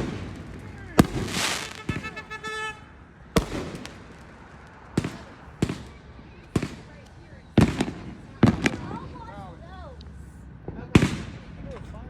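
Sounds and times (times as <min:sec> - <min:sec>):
fireworks bangs: 0:00.0 - 0:09.5, 0:11.0 - 0:11.9
fireworks crackling and hissing: 0:00.0 - 0:11.8.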